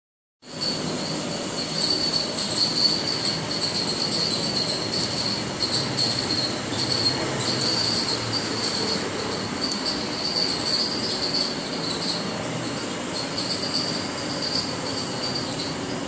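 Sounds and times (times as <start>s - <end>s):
high-pitched machine whine: 0.4s - 16.0s
pulverizer machine running: 0.5s - 16.0s.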